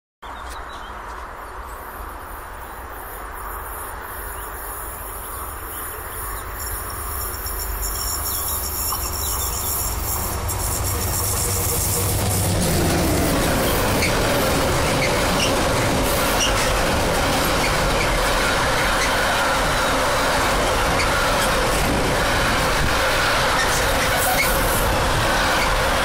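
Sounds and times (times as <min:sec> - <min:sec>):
freight train rolling: 0:00.9 - 0:26.0.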